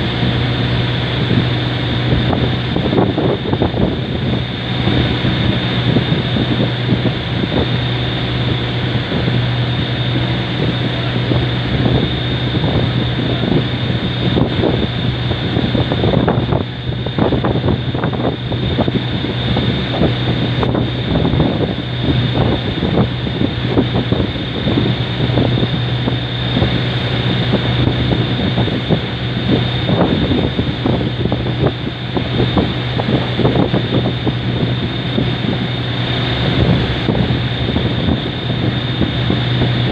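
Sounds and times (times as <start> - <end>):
boat engine droning: 0.0 - 39.9
wind buffeting microphone: 0.0 - 39.9.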